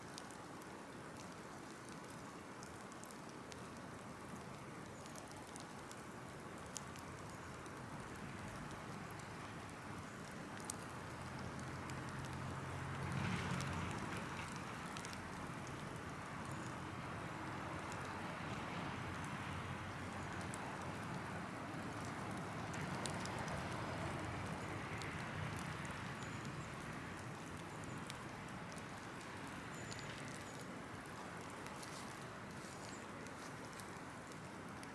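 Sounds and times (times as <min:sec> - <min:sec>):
open fire crackling: 0:00.0 - 0:34.9.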